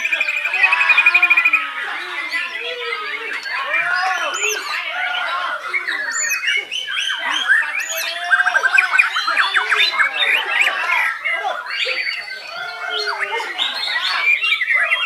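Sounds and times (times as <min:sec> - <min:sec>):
birds singing whistles and trills: 0:00.0 - 0:15.0.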